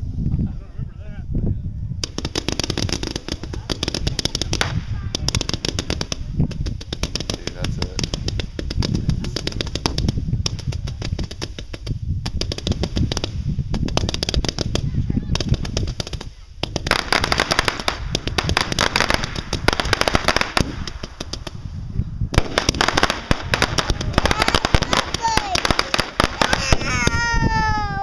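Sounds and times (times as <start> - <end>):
fireworks cracking and banging: 2.0 - 27.9.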